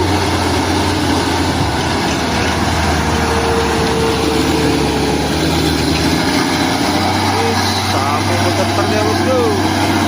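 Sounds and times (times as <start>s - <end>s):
heavy truck engine running: 0.0s - 10.0s.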